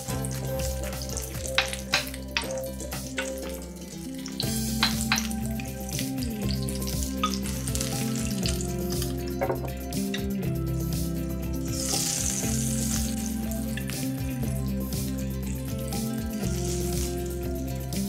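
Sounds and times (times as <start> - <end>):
oil crackling and popping: 0.0 - 9.4, 11.6 - 17.6
fritters sizzling in oil: 0.0 - 18.0.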